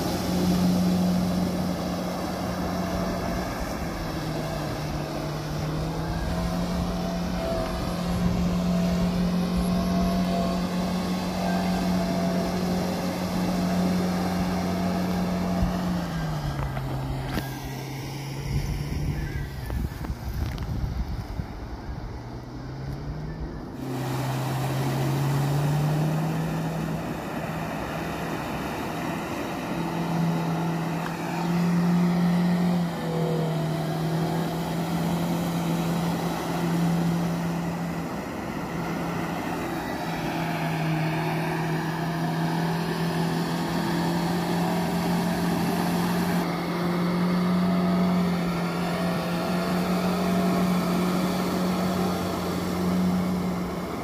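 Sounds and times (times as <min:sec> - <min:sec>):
engine running under load: 0:00.0 - 0:54.0.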